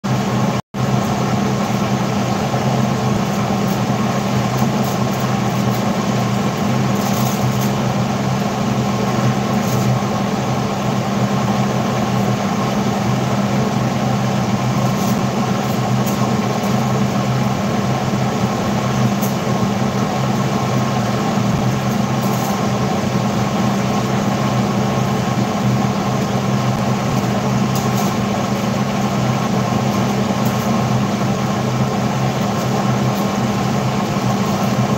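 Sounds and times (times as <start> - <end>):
kitchen appliance motor hum: 0.3 - 34.9.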